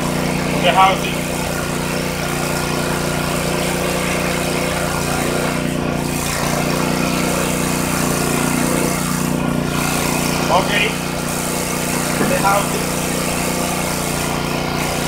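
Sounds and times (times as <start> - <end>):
paint sprayer motor hum: 0.0 - 15.0.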